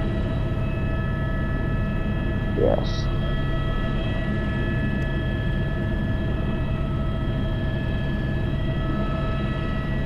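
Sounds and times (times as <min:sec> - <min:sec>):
helicopter rotor rumble: 0:00.0 - 0:10.0
helicopter turbine whine: 0:00.0 - 0:10.0.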